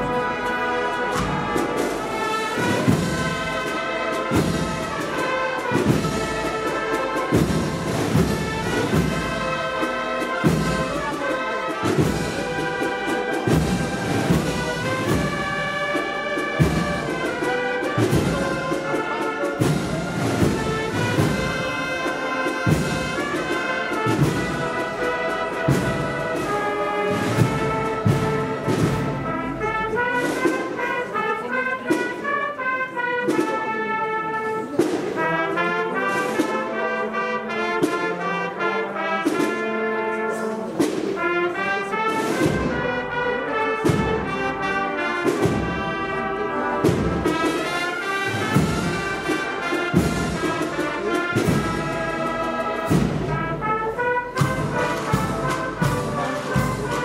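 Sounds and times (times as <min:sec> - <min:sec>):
brass marching band: 0:00.0 - 0:57.0.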